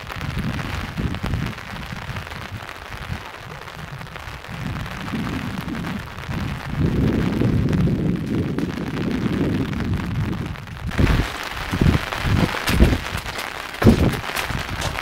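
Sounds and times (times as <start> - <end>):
heavy rain falling: 0.0 - 15.0
wind buffeting microphone: 0.0 - 15.0.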